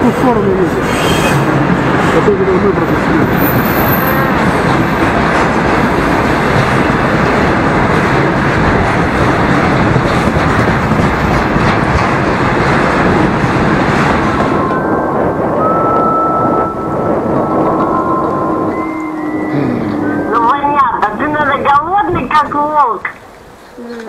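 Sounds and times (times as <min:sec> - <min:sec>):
train rumbling and rattling on rails: 0:00.0 - 0:24.0.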